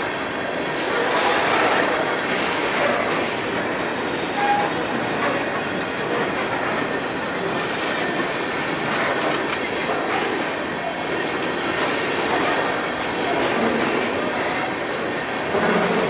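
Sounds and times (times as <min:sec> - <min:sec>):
steel wheels rumbling on rails: 0:00.0 - 0:16.0
wheels clicking over rail joints: 0:00.1 - 0:16.0.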